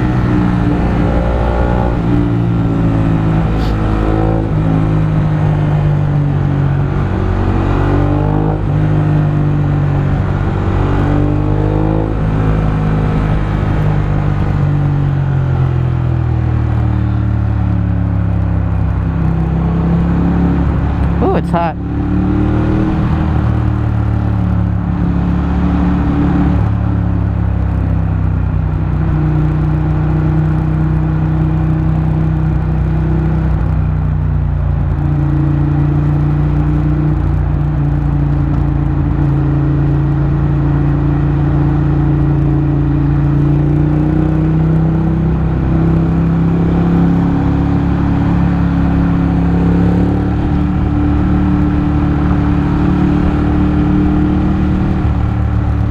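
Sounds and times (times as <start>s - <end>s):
motorcycle engine cruising: 0.0s - 55.9s
road and wind noise: 0.0s - 55.9s.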